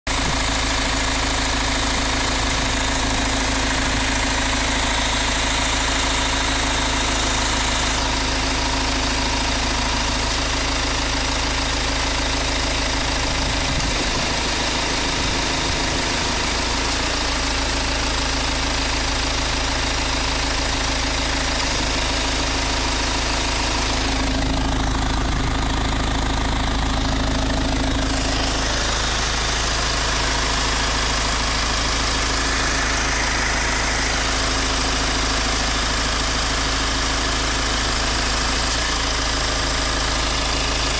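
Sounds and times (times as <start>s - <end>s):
diesel engine idling: 0.1s - 40.9s.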